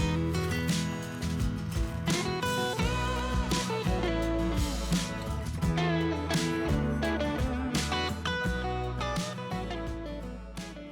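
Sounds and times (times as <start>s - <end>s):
steady bass: 0.0s - 10.9s
strummed and bent guitar: 0.0s - 10.9s.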